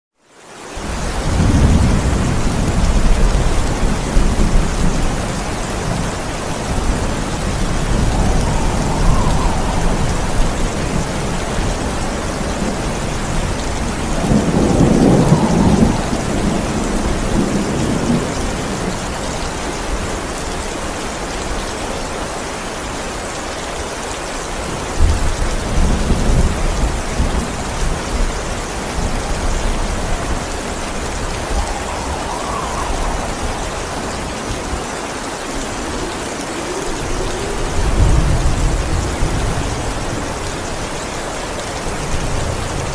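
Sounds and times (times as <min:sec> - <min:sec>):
heavy rain: 0:00.2 - 0:42.9
thunder rumbling: 0:00.8 - 0:20.1, 0:25.0 - 0:42.9.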